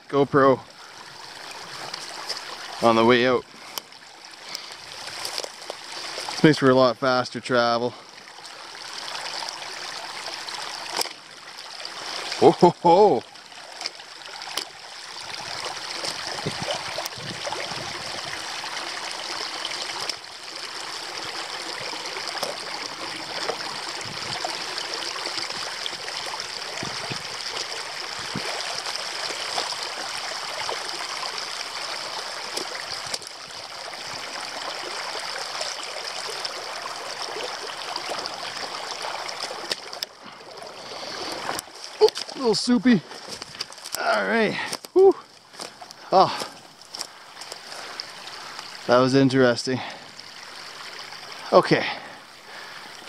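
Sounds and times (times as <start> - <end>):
water rushing over a dam: 0.0 - 52.8.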